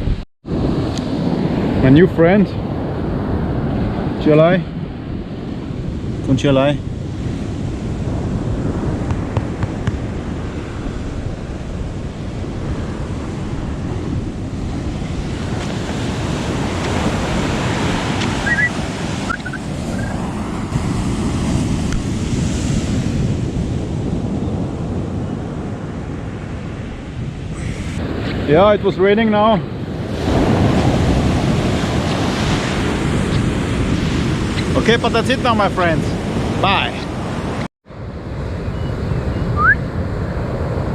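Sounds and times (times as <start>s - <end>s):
surf breaking on a beach: 0.0s - 40.9s
wind buffeting microphone: 0.0s - 40.9s.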